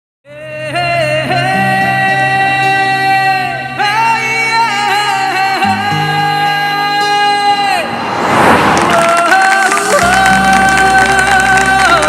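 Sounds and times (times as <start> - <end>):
slow sad song melody: 0.3 - 12.0
sustained bass notes: 0.3 - 12.0.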